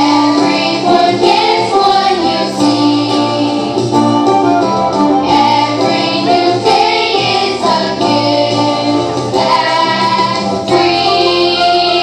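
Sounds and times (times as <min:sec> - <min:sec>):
children's choir singing: 0:00.0 - 0:04.0, 0:05.2 - 0:12.0.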